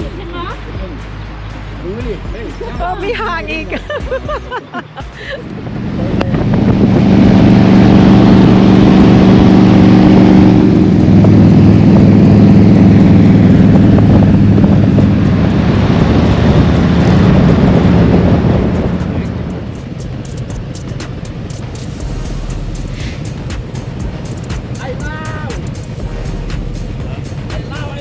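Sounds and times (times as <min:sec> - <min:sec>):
rushing wind noise: 0:04.8 - 0:28.0
motorcycle engine running: 0:05.4 - 0:28.0.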